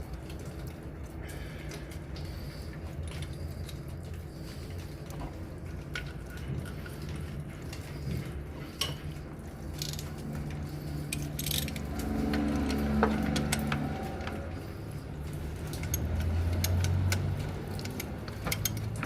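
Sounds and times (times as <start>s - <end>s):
low hum: 0.0s - 18.8s.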